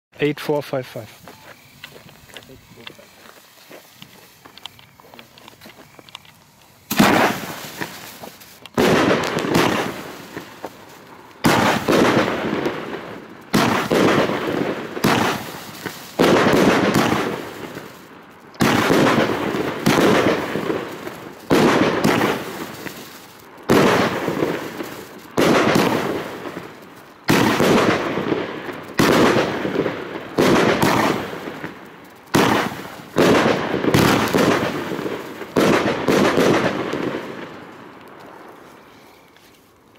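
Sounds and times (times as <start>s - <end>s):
firework shots banging: 1.0s - 38.6s.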